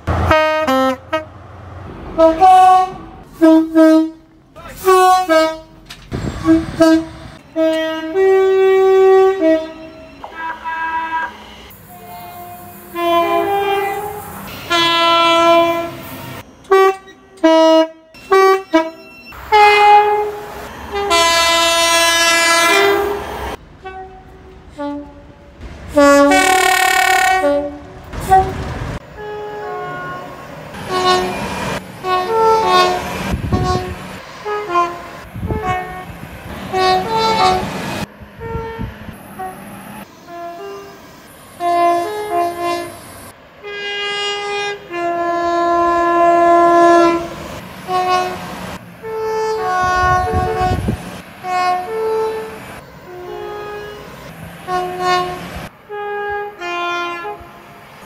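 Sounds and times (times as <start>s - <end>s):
train rumble: 0.0s - 58.0s
train horn blasts: 0.1s - 1.4s, 2.1s - 37.8s, 38.4s - 43.0s, 43.6s - 57.9s.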